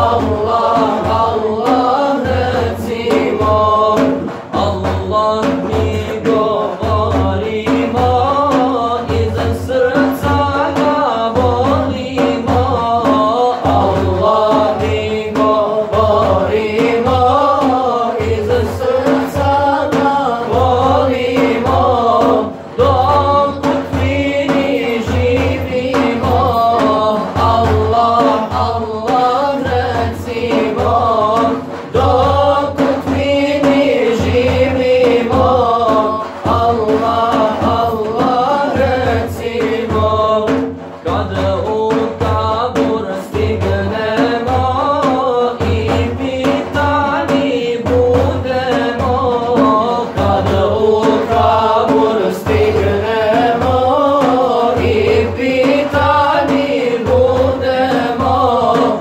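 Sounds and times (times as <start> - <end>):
frame drum beat: 0.0 - 59.0
men singing a devotional hymn: 0.0 - 59.0.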